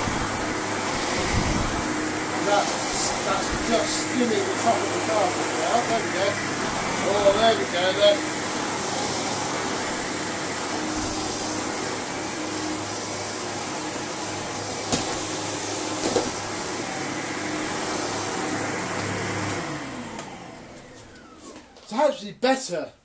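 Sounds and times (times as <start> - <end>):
vacuum motor winding down: 0.0 - 21.8
vacuum cleaner on carpet: 0.0 - 22.1.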